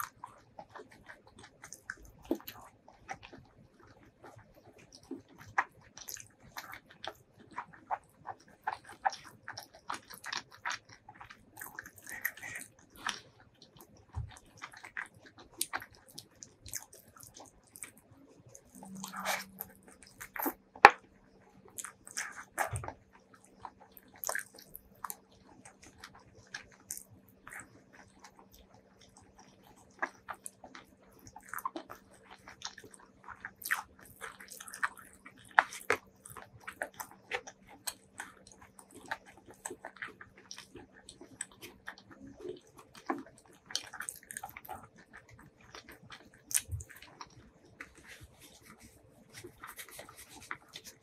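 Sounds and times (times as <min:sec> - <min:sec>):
crunchy chewing and biting: 0:00.0 - 0:51.0
low steady hum: 0:00.0 - 0:51.0.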